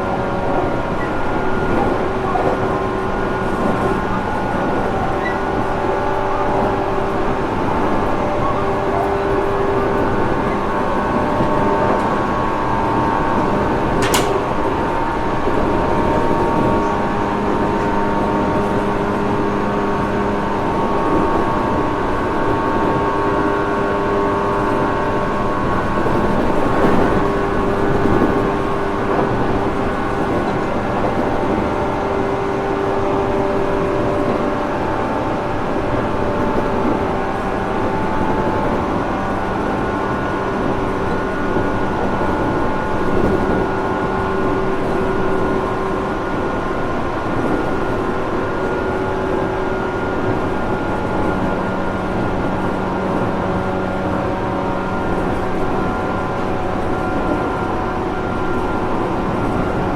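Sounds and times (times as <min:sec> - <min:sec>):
train motor and gear whine: 0:00.0 - 0:59.9
wheel and rail noise: 0:00.0 - 0:59.9.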